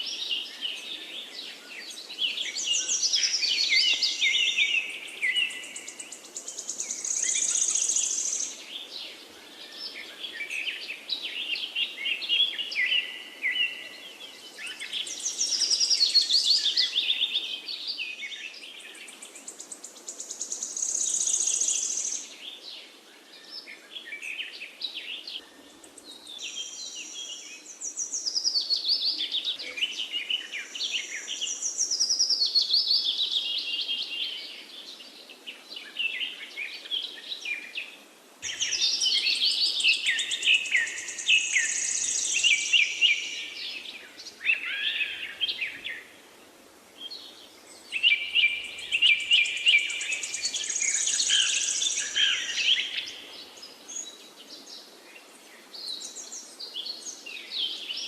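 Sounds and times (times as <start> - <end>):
birds chirping and trilling: 0.0 - 58.0
faint steady hiss: 0.0 - 58.0.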